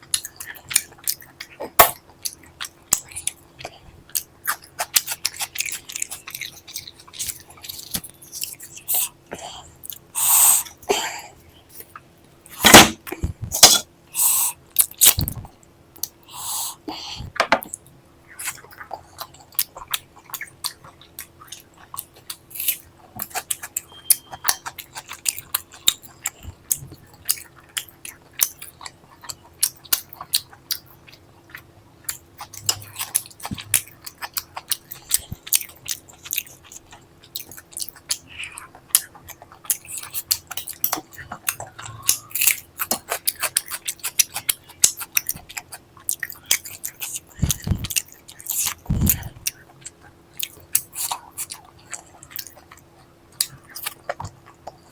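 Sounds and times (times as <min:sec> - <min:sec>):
chewing and mouth sounds: 0:00.0 - 0:10.8, 0:17.1 - 0:54.9.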